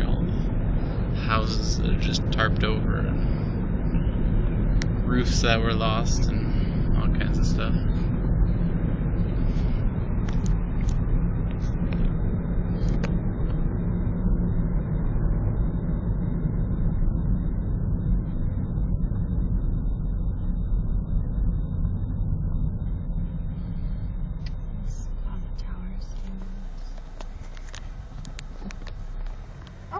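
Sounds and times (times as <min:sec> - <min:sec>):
car road noise rumble: 0:00.0 - 0:29.9.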